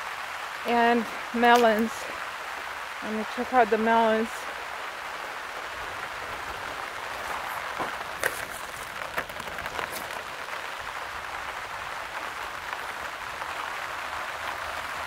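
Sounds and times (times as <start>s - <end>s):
rain pattering on field: 0.0s - 15.0s.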